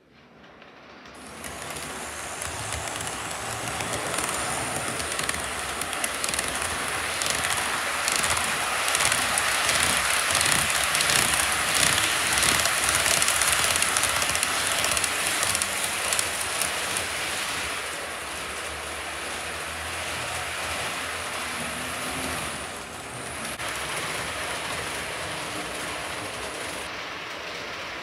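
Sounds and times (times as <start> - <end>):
model train wheels rumbling: 0.0 - 28.0
wheels clicking over track joints: 0.4 - 28.0.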